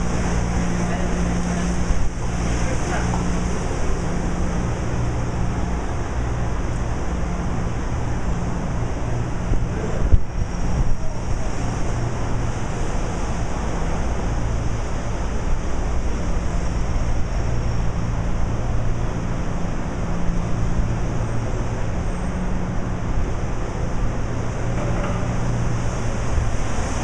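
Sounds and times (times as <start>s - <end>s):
traffic: 0.0s - 27.0s
wind on microphone: 0.0s - 27.0s.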